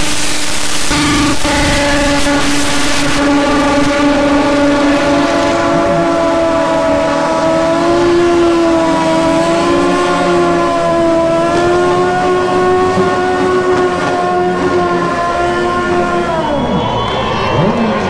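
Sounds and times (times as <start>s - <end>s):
motorcycle engine at high revs: 0.0s - 16.2s.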